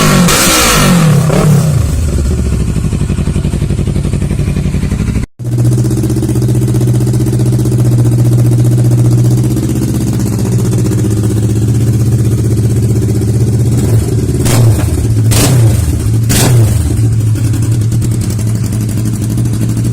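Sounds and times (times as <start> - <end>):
motorcycle engine revving: 0.0 - 19.9
motorcycle engine idling: 1.3 - 19.9.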